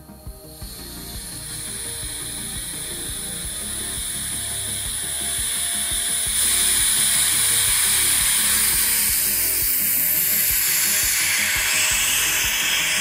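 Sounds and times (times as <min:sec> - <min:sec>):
air hissing into vacuum chamber: 0:00.0 - 0:13.0
fast uneven low ticking: 0:00.0 - 0:13.0.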